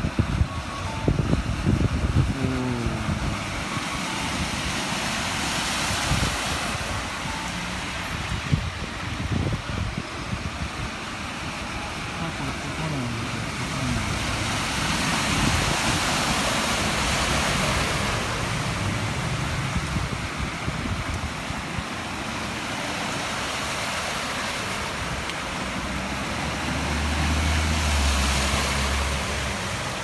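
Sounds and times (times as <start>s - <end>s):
rushing wind and water: 0.0s - 30.0s.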